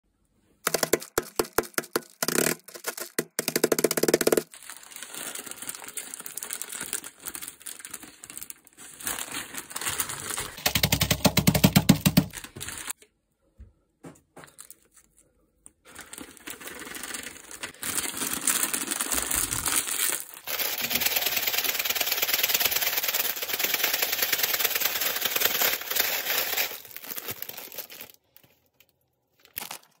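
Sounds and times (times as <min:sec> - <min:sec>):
noodles crushed in bag: 0:00.6 - 0:13.0, 0:15.8 - 0:30.0
foil packaging crinkling: 0:00.7 - 0:13.0, 0:15.8 - 0:30.0.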